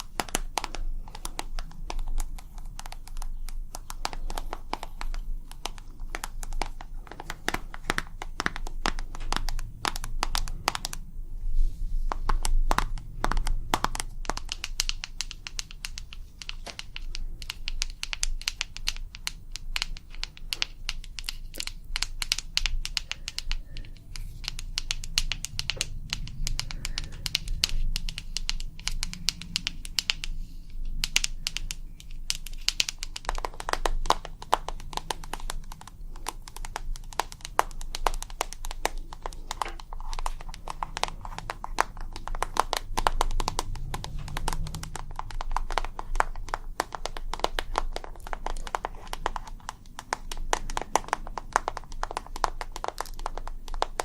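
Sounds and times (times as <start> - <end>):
rapid tapping on hard object: 0.0 - 11.2, 12.0 - 54.0.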